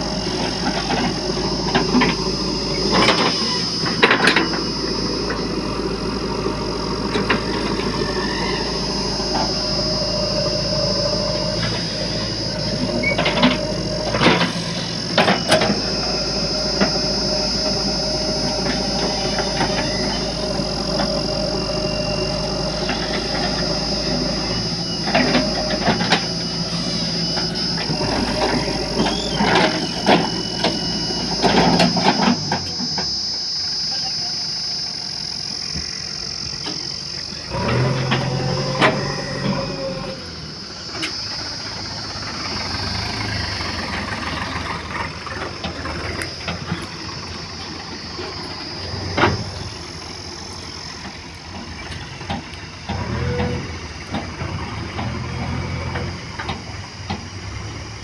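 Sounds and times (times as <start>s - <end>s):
diesel engine running under load: 0.0s - 58.0s
high whine: 0.0s - 58.0s.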